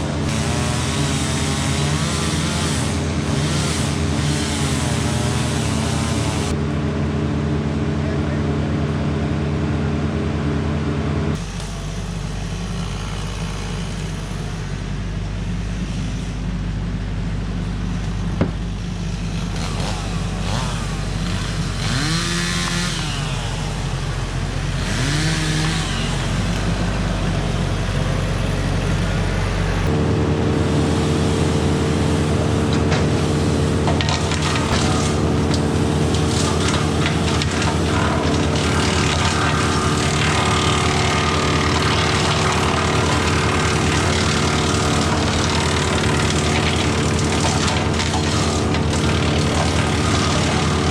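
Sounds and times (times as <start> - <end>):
engine running: 0.0 - 50.9.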